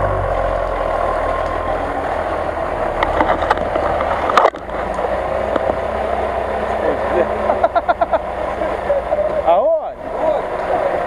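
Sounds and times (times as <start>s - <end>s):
truck engine running in mud: 0.0s - 11.0s.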